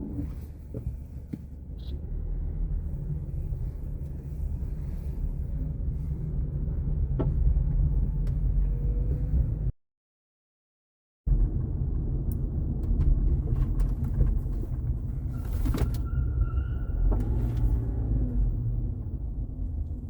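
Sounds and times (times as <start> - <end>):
low car cabin rumble: 0.0 - 9.7, 11.3 - 20.0.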